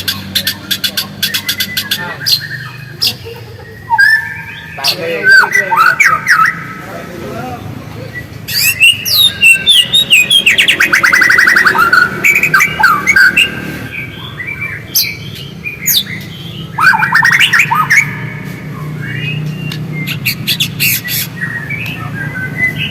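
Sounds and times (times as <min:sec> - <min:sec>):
bird whistling and chattering: 0:00.0 - 0:07.2, 0:08.0 - 0:22.9.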